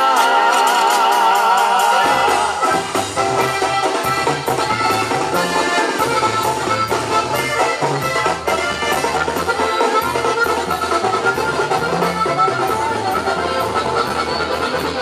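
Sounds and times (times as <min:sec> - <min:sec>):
banda dance music: 0:00.0 - 0:15.0.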